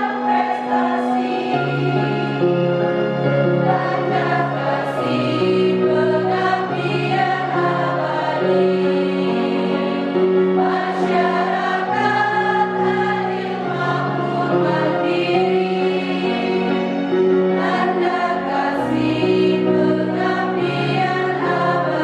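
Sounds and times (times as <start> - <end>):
women's choir singing in harmony: 0.0 - 22.0.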